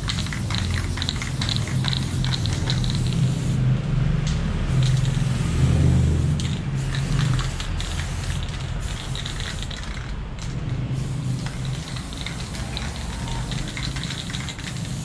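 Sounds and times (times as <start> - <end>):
spray paint can hissing: 0.0 - 3.6, 4.3 - 15.0.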